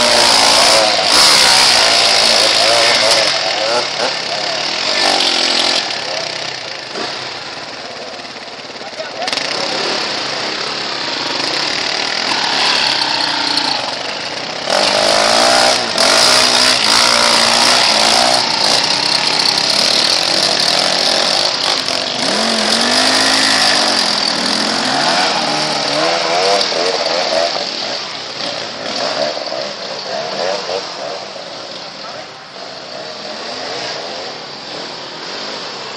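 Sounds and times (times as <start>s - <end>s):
motocross engines revving: 0.0s - 35.9s.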